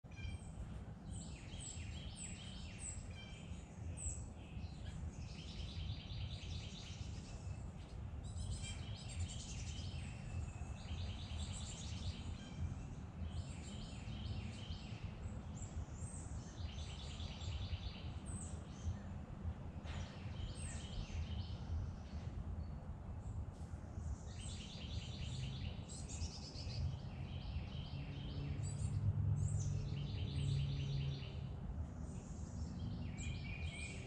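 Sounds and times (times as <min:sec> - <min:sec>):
birds singing trills and chirps: 0:00.1 - 0:34.0.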